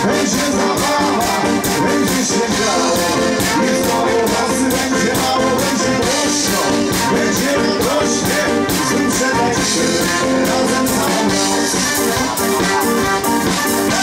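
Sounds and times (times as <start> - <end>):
man singing: 0.0 - 12.8, 13.4 - 14.0
pop-rock band playing: 0.0 - 14.0.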